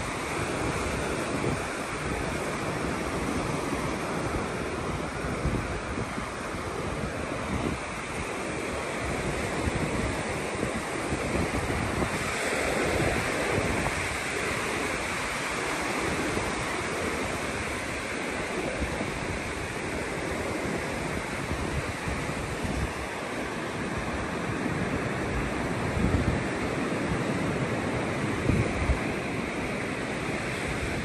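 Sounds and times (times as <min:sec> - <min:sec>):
ocean surf washing onto beach: 0:00.0 - 0:31.0
wind buffeting microphone: 0:00.0 - 0:31.0.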